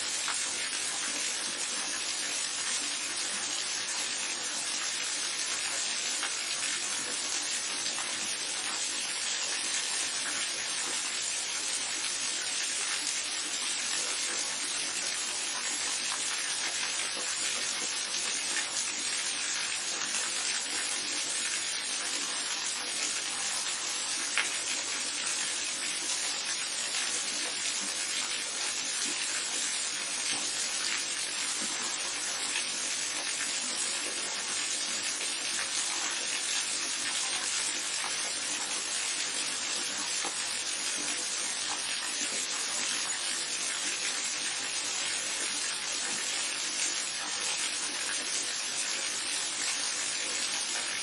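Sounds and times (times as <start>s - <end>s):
waterfall and babbling brook: 0.0s - 51.0s.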